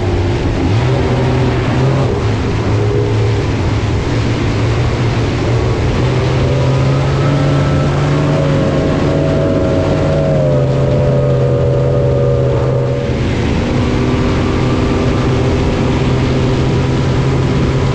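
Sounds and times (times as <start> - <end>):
jet boat engine running: 0.0 - 17.9
rushing water and wind: 0.0 - 17.9.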